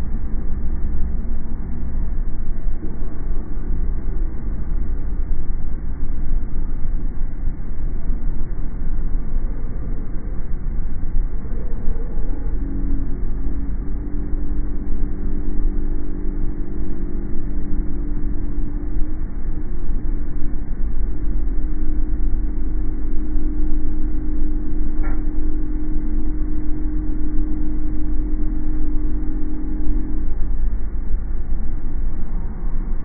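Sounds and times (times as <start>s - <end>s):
car road and engine rumble: 0.0s - 33.0s
steady tonal hum: 0.0s - 33.0s.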